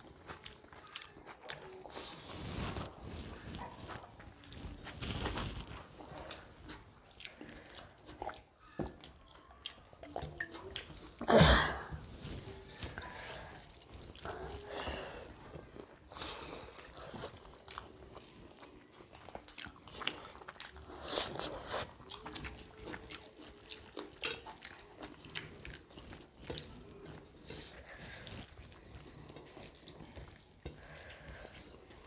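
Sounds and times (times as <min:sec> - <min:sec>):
wet chewing and mouth smacks: 0:00.0 - 0:11.3, 0:12.1 - 0:32.0.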